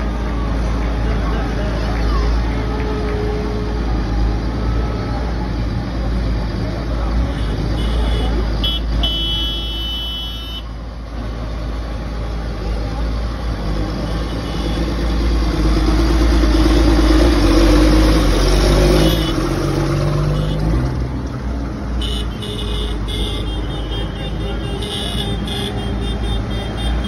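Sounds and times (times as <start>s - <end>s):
diesel tractor engines: 0.0s - 27.0s.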